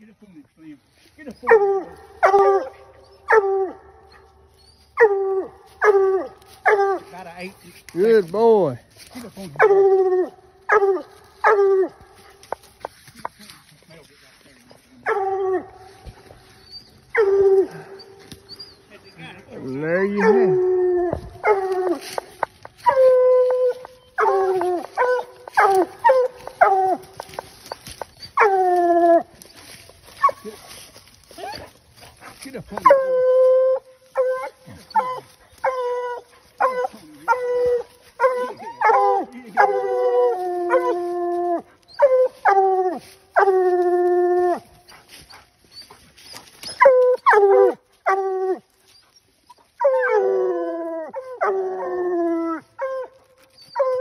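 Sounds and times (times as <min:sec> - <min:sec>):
hounds baying: 0:01.2 - 0:13.6, 0:14.6 - 0:54.0
hounds barking: 0:01.4 - 0:07.2, 0:09.4 - 0:12.8, 0:14.8 - 0:43.6, 0:44.5 - 0:48.6, 0:49.8 - 0:54.0.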